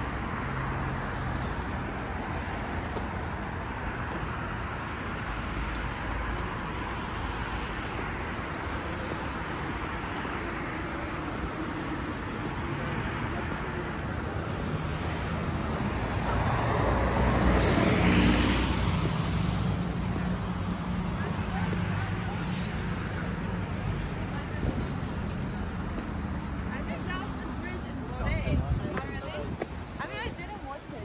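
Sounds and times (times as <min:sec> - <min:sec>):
hum of cars on road: 0:00.0 - 0:31.0.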